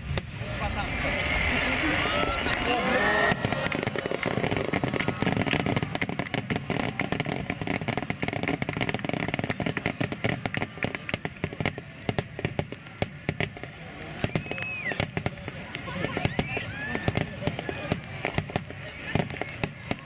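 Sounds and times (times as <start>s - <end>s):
fireworks crackling pops: 0.0s - 0.6s, 1.7s - 20.0s
low rumble of firework bursts: 0.0s - 20.0s.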